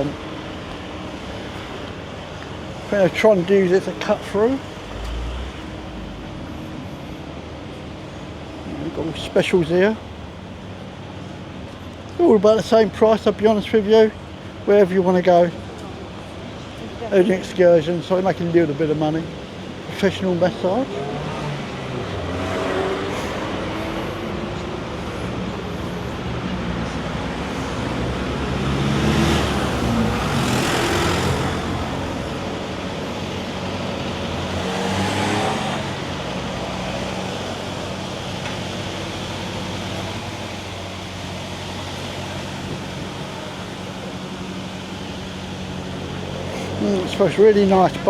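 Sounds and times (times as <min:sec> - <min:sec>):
road traffic hum: 0:00.0 - 0:48.0
vehicles passing: 0:00.0 - 0:48.0.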